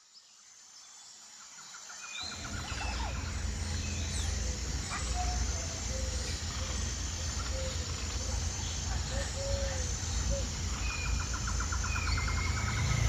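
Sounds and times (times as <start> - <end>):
small birds chirping: 2.2 - 13.0
thin high hum: 2.2 - 13.0
steady low rumble: 2.3 - 13.0.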